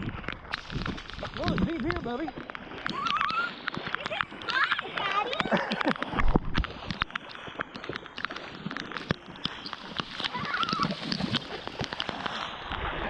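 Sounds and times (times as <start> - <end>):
footsteps splashing through water: 0.0 - 13.0
raindrops hitting near microphone: 0.0 - 13.0.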